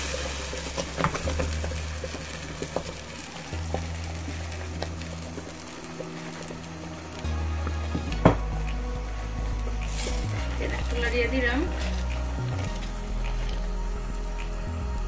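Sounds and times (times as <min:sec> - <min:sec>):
background music with low bass: 0:00.0 - 0:15.0
hot oil sizzling and crackling: 0:00.0 - 0:15.0.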